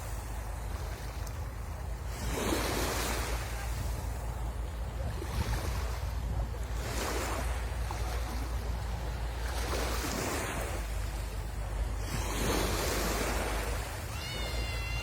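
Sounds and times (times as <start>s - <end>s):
sea waves washing onto shore: 0.0s - 15.0s
wind rumbling on microphone: 0.0s - 15.0s.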